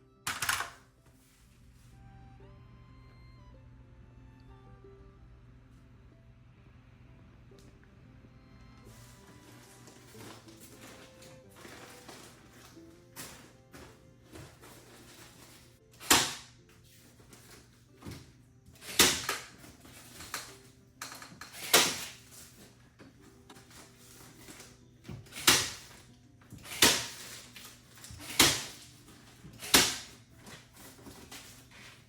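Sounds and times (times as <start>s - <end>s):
faint background music: 0.0s - 32.0s.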